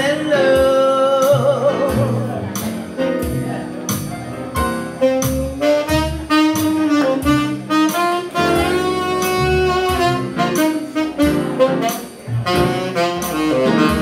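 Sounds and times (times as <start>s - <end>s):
electric keyboard accompaniment: 0.0s - 14.0s
saxophone jazz solo: 0.0s - 14.0s.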